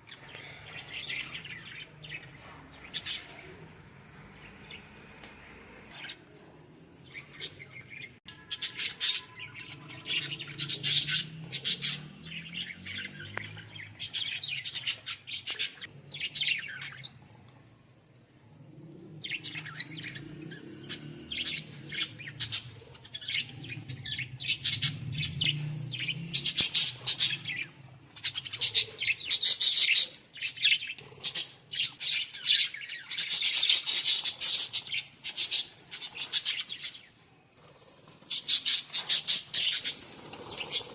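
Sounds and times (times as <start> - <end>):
budgerigars chirping and chattering: 0.0 - 17.3, 18.5 - 40.9.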